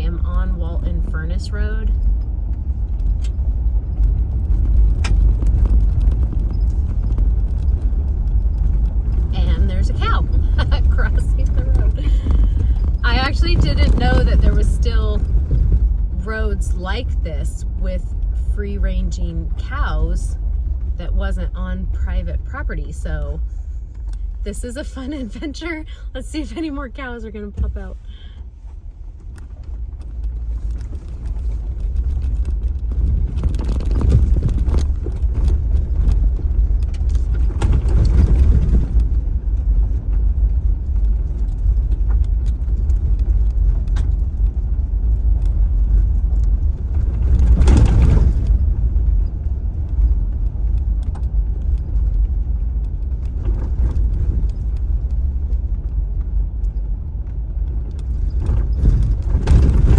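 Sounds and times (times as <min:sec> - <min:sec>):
car rattling over bumps: 0:00.0 - 0:59.9
car road noise from inside cabin: 0:00.0 - 0:59.9.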